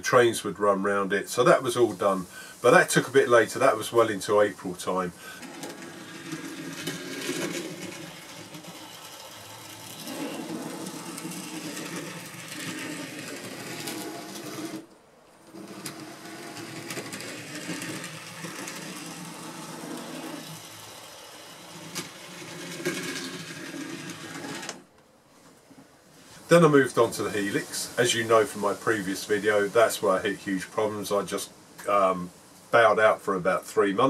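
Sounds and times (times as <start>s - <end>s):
model train motor whirring: 1.5s - 24.9s, 26.5s - 31.4s.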